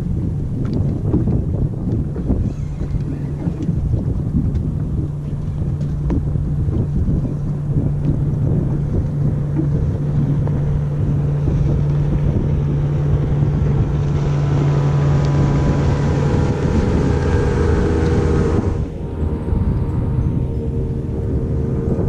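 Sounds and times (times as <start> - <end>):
boat motor hum: 0.0 - 22.0
wind buffeting microphone: 0.0 - 22.0.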